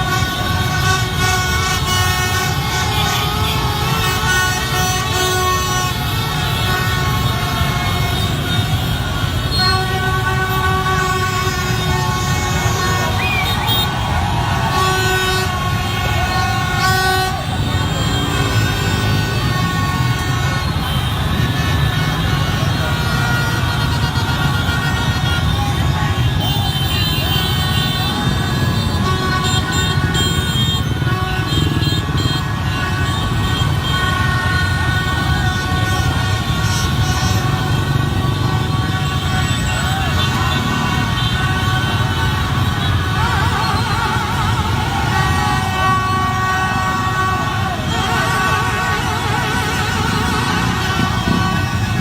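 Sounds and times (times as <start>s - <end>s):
horns tooting: 0.0s - 52.0s
traffic noise: 0.0s - 52.0s
crowd din: 5.9s - 52.0s.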